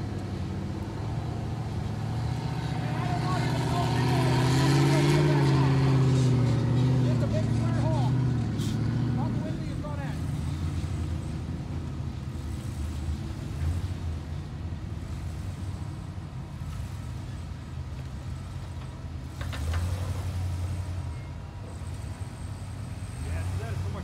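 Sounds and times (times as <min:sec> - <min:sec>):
buggy engine revving: 0:00.0 - 0:24.0.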